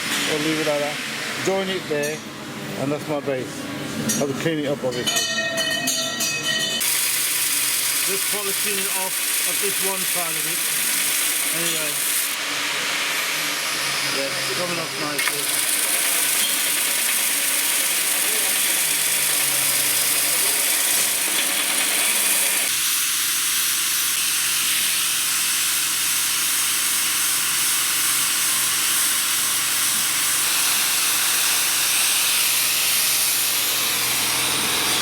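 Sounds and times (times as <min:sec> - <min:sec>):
polishing machine hissing: 0:06.8 - 0:35.0.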